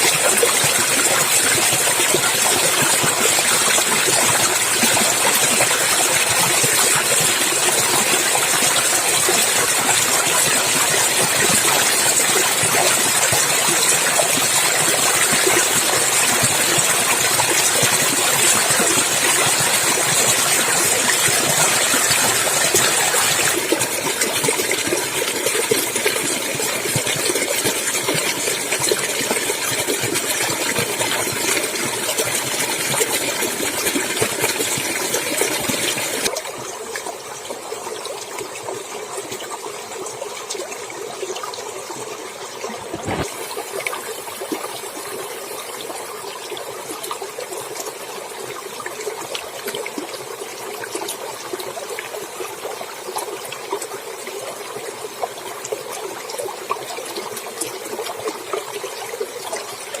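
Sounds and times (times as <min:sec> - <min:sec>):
stream water flowing over rocks: 0:00.0 - 1:00.0.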